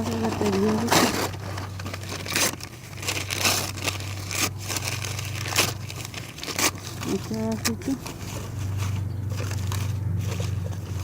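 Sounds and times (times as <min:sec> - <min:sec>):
firewood and paper breaking: 0:00.0 - 0:11.0.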